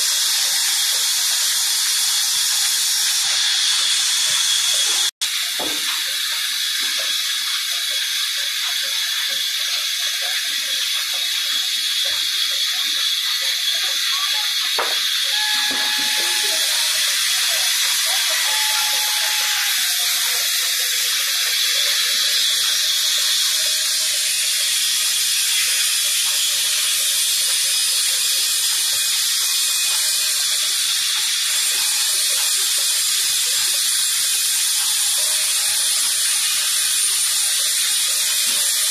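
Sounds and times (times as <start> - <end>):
band saw cutting timber: 0.0 - 38.9.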